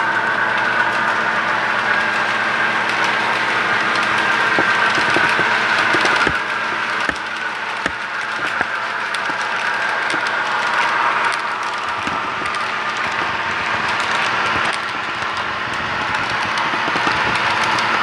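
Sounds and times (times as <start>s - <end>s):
model train running: 0.0s - 18.0s.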